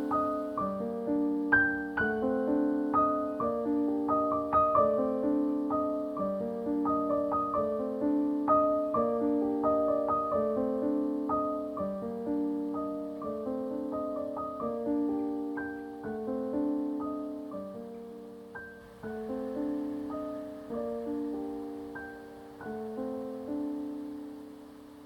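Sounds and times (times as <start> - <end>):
gentle solo piano piece: 0.0 - 25.0.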